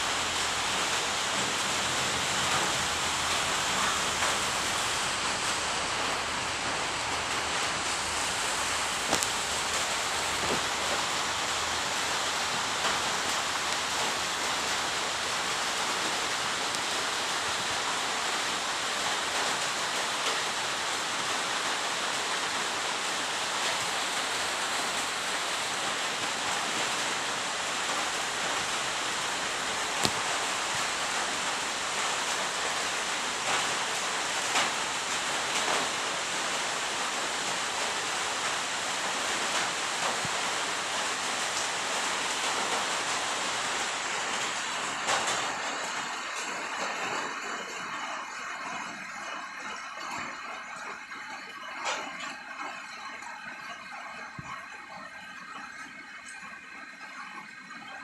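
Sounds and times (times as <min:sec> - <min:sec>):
steady hiss: 0:00.0 - 0:50.3.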